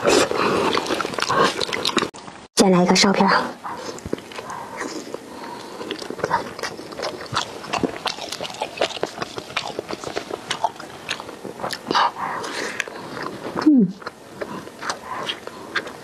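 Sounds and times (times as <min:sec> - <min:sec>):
person chewing food: 0:00.0 - 0:02.3, 0:03.6 - 0:16.0.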